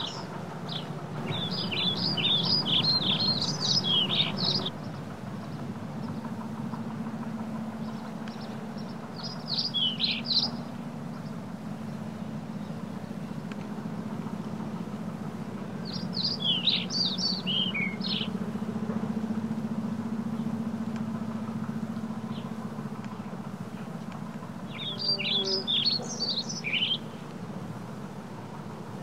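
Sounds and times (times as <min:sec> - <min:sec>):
songbird singing rapid high notes: 0:00.0 - 0:06.4, 0:07.7 - 0:18.8, 0:21.7 - 0:27.6
low hum of electric bike: 0:00.0 - 0:29.0.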